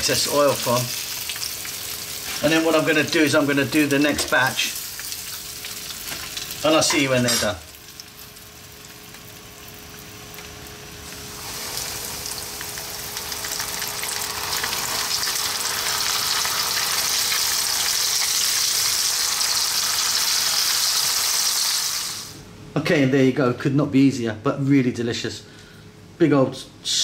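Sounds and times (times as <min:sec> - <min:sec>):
crackling deep-fry sizzle: 0:00.0 - 0:22.4
oil sizzling in a skillet: 0:00.0 - 0:22.4.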